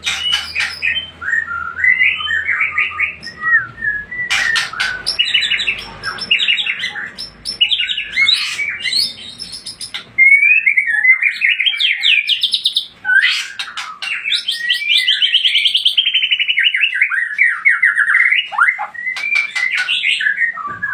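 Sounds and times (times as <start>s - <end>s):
bird singing whistles and trills: 0.0s - 20.9s.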